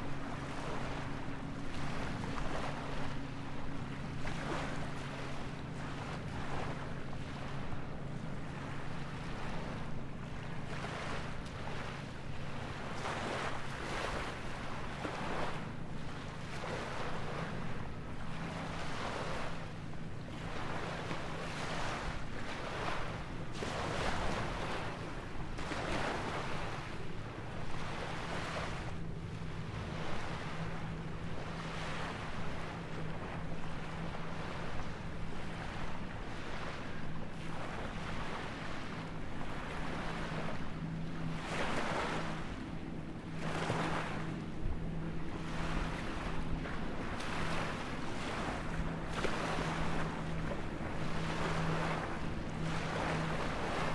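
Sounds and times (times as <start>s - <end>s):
low steady hum: 0.0s - 53.9s
small waves washing ashore: 0.0s - 53.9s.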